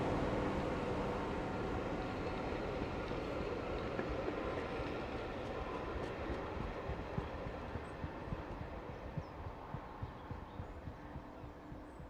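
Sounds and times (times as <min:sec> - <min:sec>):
train coaches rolling past: 0:00.0 - 0:11.9.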